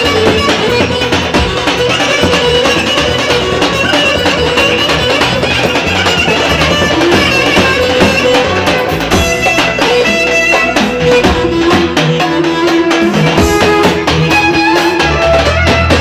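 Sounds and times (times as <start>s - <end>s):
keyboard and hand drum beat: 0.0s - 16.0s
reedy lead melody: 0.0s - 16.0s.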